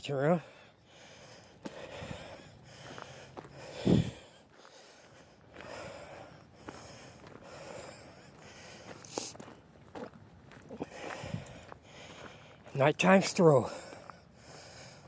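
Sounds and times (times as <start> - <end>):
person breathing: 0.4 - 9.5, 10.7 - 12.7, 13.6 - 15.0.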